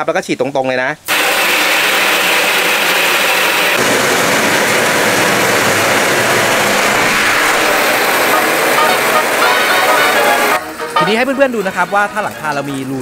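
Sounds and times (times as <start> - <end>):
hose spray drumming on metal roof: 1.1 - 13.0.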